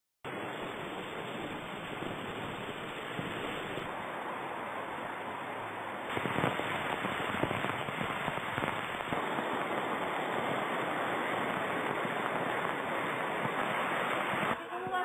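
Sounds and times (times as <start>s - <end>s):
torrential rain: 0.2s - 15.0s
sharp crackling hits: 0.3s - 5.4s, 6.0s - 14.6s.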